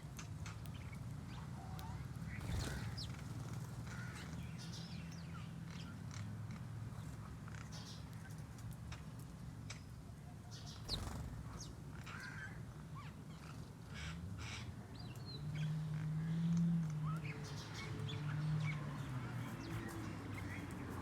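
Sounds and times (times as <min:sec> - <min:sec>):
birds chirping: 0:00.4 - 0:08.4, 0:10.5 - 0:21.0.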